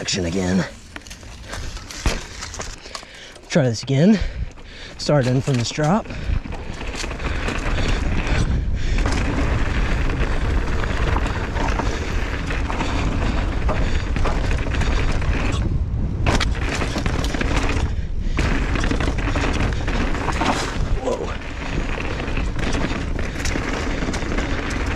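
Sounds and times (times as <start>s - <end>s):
bike rattling and knocking: 0.0s - 24.9s
bike tyres on dirt: 0.0s - 24.9s
wind rumble on microphone: 4.2s - 24.9s.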